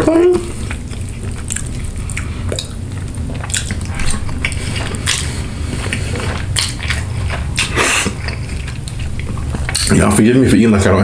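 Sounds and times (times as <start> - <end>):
steady low rumble: 0.0 - 11.0
wet chewing and lip smacks: 0.5 - 10.0.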